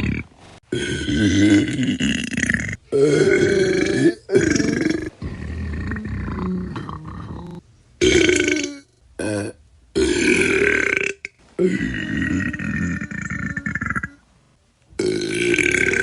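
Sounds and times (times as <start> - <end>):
person burping: 0.0 - 14.2, 15.0 - 16.0.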